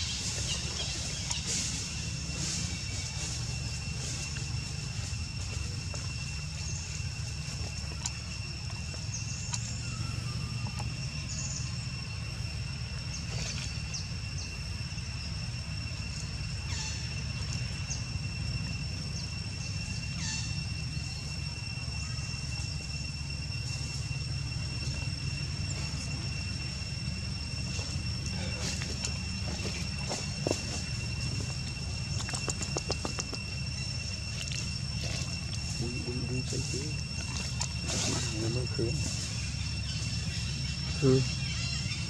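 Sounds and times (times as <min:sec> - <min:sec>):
high-pitched whine: 0:00.0 - 0:42.0.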